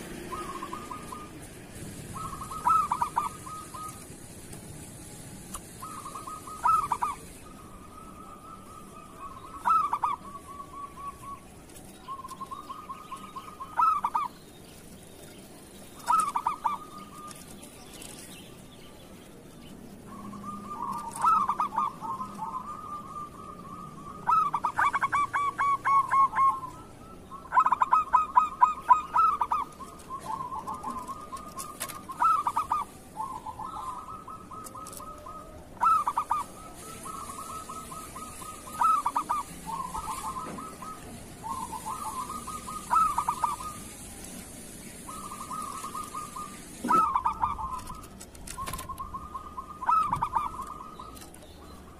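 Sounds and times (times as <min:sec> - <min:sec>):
doves cooing: 0:00.0 - 0:18.6, 0:19.3 - 0:51.9.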